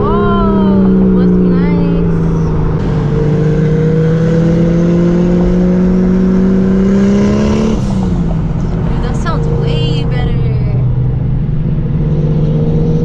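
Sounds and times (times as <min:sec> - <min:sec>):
car engine revving: 0:00.0 - 0:13.0
road rumble: 0:00.0 - 0:13.0.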